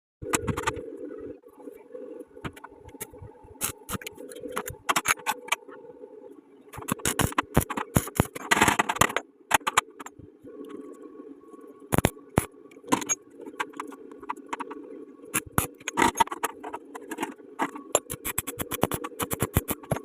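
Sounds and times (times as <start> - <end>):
steady hum: 0.2 - 20.0.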